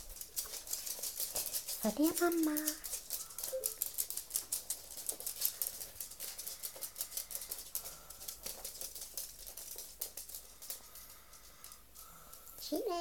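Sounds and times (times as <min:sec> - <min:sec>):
dog claws clicking on floor: 0:00.0 - 0:13.0.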